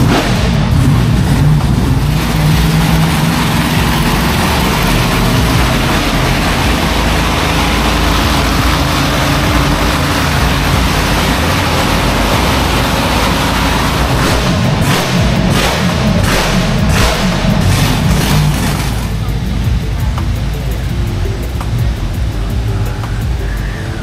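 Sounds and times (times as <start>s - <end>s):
engine running: 0.0s - 24.0s
low hum: 0.0s - 24.0s.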